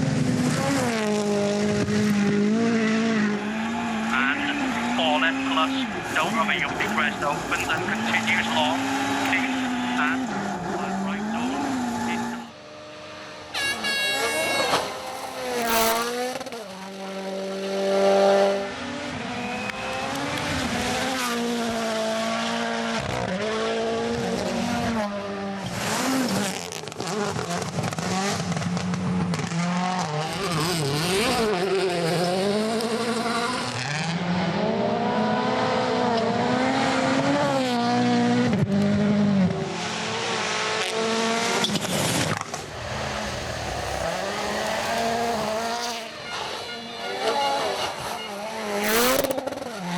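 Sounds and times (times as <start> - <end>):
rally car engine revving: 0.0 - 49.9.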